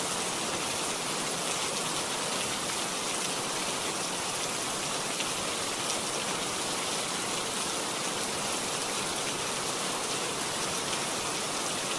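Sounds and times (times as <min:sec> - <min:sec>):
heavy rain falling: 0:00.0 - 0:11.9.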